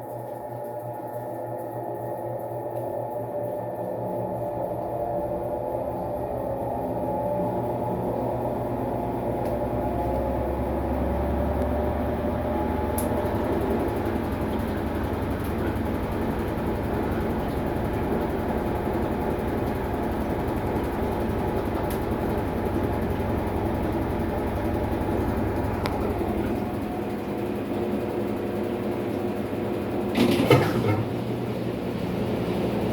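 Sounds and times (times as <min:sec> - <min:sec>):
washing machine motor hum: 0:00.0 - 0:32.9.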